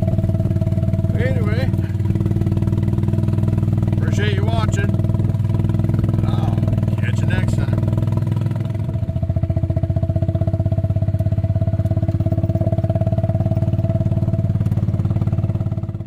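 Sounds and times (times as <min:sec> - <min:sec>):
small gasoline engine running: 0:00.0 - 0:16.0.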